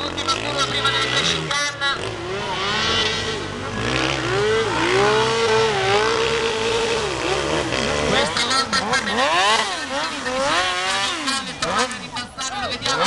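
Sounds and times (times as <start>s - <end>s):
small engine revving hard: 0.0s - 13.0s.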